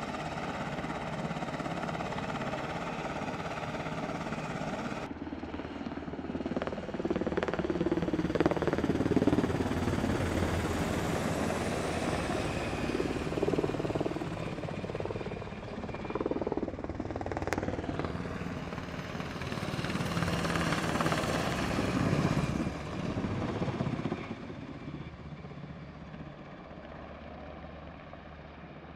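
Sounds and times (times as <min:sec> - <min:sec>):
helicopter flying past: 0:00.0 - 0:28.9.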